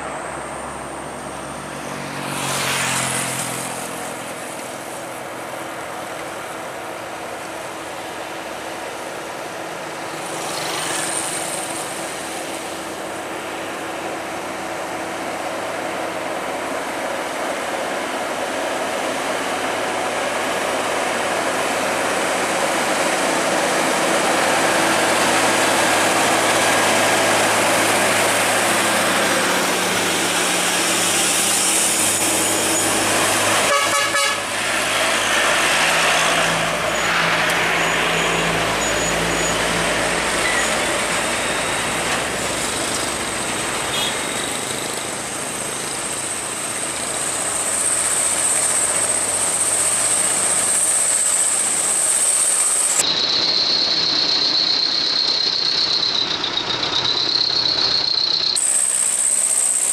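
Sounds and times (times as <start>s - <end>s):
truck diesel engines labouring: 0.0s - 59.9s
tyre and road noise: 0.0s - 59.9s.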